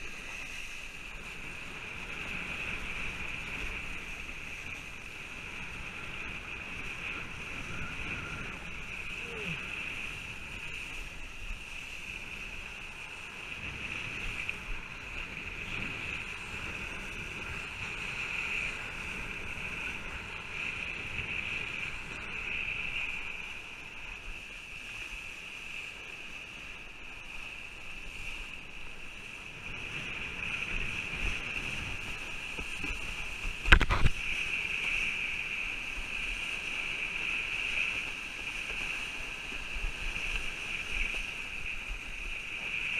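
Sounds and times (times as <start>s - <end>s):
water rushing and spraying: 0.0s - 42.9s.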